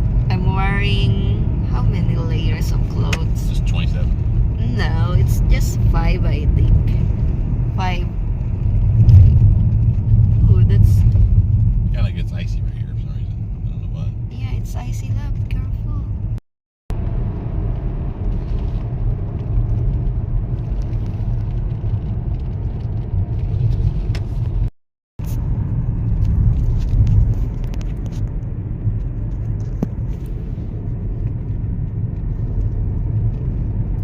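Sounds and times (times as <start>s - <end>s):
road and engine rumble in car: 0.0s - 34.0s.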